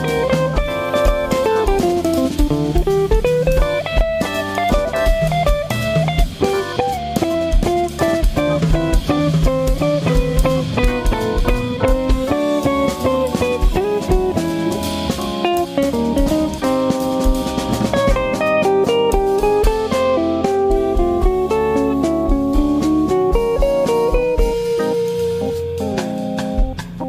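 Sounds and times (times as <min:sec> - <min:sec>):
electric guitar single-note lines: 0:00.0 - 0:17.0, 0:17.9 - 0:26.8
drum kit: 0:00.0 - 0:27.0.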